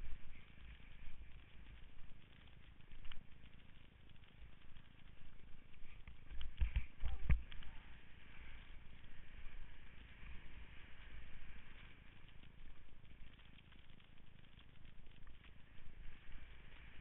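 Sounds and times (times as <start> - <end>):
skis sliding over snow: 0.0 - 17.0.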